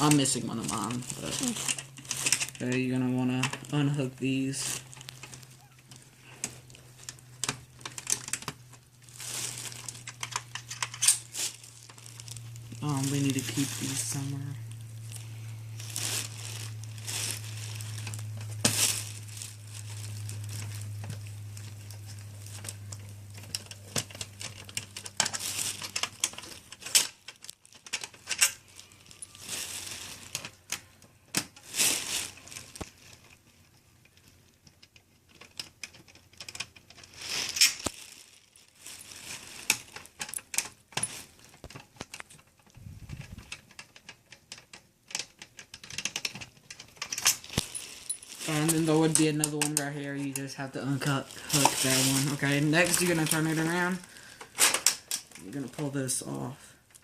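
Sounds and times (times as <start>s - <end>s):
low steady hum: 0.0s - 57.0s
plastic parts clicking and rattling: 0.0s - 57.0s.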